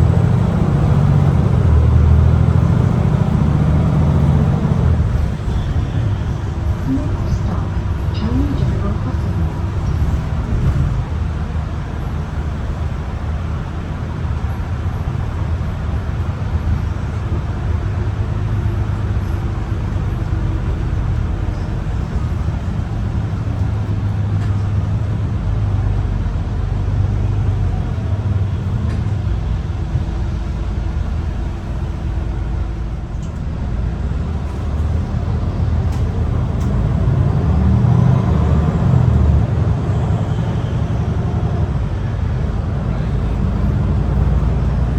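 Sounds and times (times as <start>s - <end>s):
bus engine drone: 0.0s - 44.9s
road and tyre noise: 0.0s - 44.9s.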